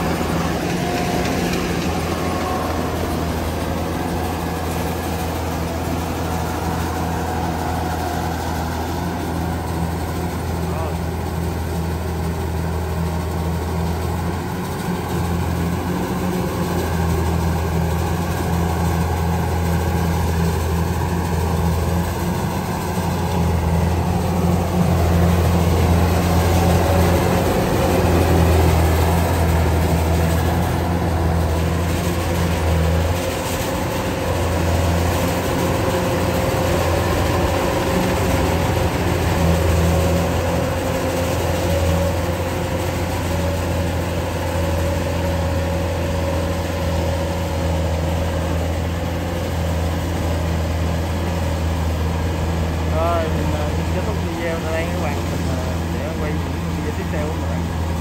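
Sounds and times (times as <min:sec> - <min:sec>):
combine harvester engine drone: 0:00.0 - 0:58.0
machinery humming: 0:00.0 - 0:58.0.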